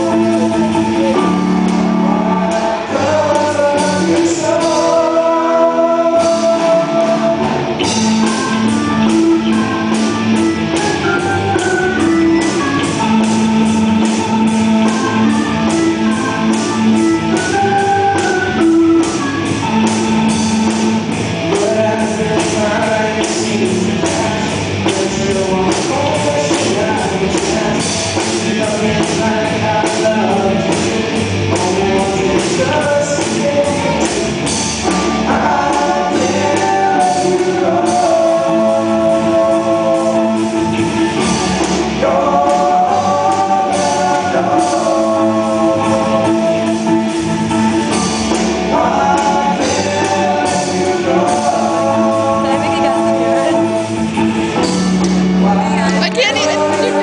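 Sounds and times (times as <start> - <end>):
drum and cymbal beat: 0.0 - 57.0
electric guitar playing: 0.0 - 57.0
person singing: 0.0 - 57.0.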